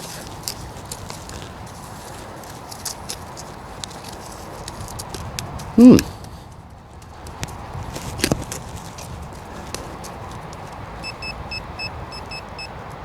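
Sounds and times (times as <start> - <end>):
knocks and scuffs on soil: 0.0 - 11.0.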